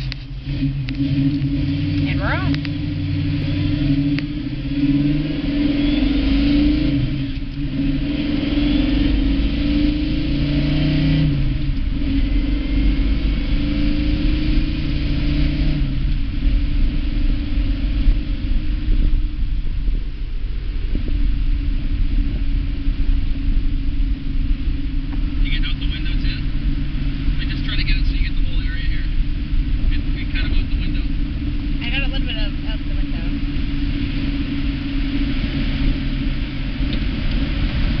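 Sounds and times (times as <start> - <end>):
car engine rumbling: 0.0 - 38.0
road noise: 0.0 - 38.0.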